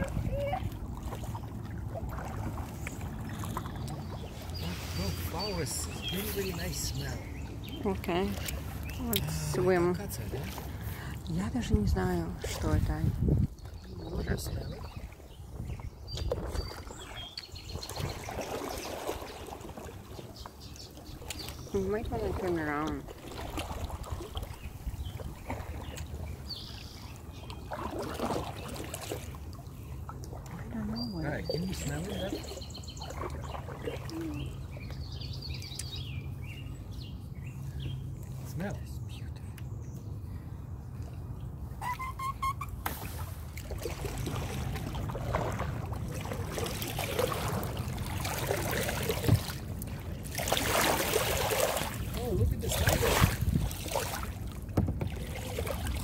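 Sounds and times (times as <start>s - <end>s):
paddle splashes and drips: 0.0s - 38.7s, 40.8s - 56.0s.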